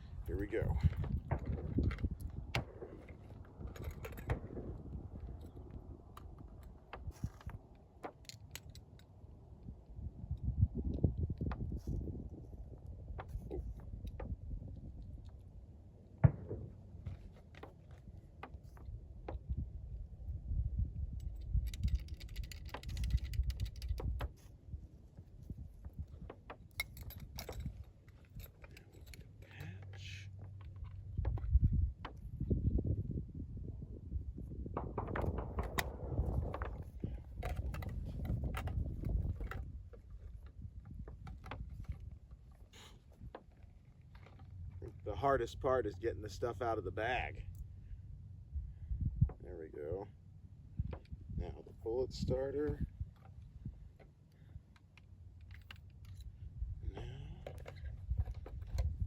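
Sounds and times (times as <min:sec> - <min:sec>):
clicks and rattles of loading gear: 0:00.0 - 0:09.4, 0:10.3 - 0:19.6, 0:21.1 - 0:32.3, 0:34.8 - 0:45.0, 0:50.8 - 0:59.0
low rumbling handling noise: 0:00.0 - 0:59.0.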